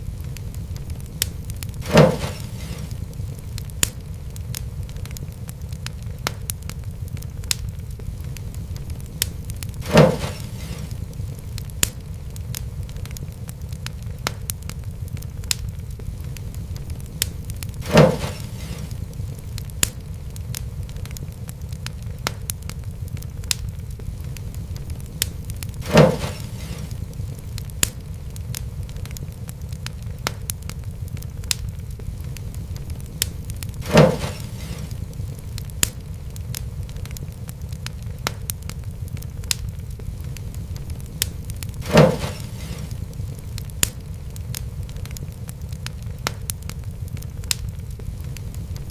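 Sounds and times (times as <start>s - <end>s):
fireplace fire crackling: 0.0s - 48.9s
loud fire pops: 0.0s - 48.9s.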